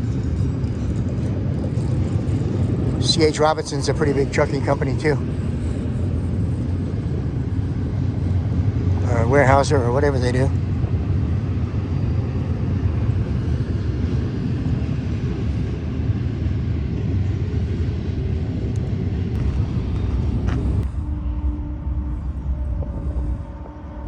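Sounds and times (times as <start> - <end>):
freight train wheels rumbling: 0.0 - 24.0
steady hum: 0.0 - 24.0.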